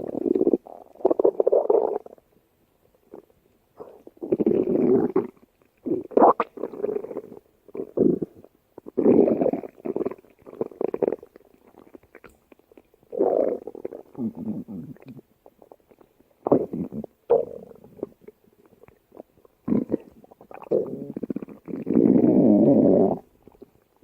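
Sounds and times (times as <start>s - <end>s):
stomach growling: 3.1s - 23.8s.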